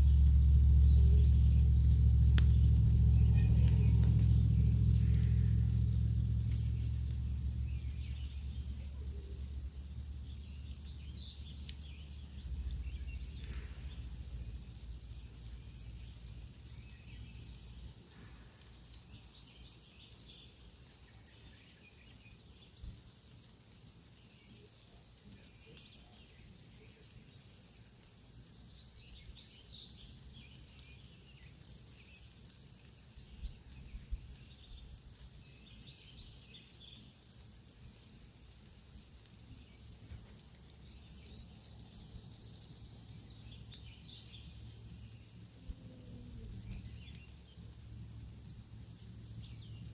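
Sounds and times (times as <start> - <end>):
low steady rumble: 0.0 - 21.6, 27.7 - 49.9
birds chirping: 0.0 - 49.9
campfire crackling and popping: 0.0 - 49.9.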